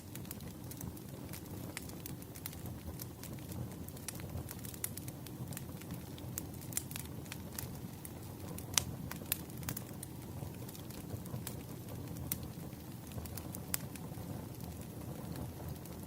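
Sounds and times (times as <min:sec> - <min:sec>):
rumble of flames: 0:00.0 - 0:16.0
wood crackling and popping: 0:00.0 - 0:16.0.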